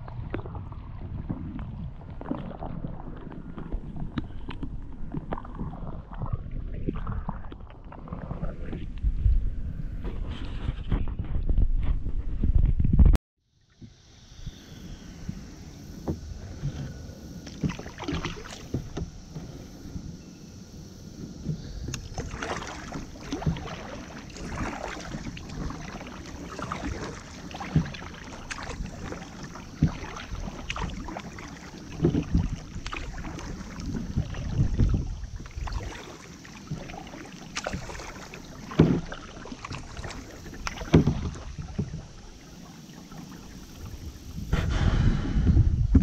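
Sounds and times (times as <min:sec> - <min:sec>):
paddle splashing in water: 0:00.0 - 0:08.9, 0:15.2 - 0:20.0, 0:21.2 - 0:44.9.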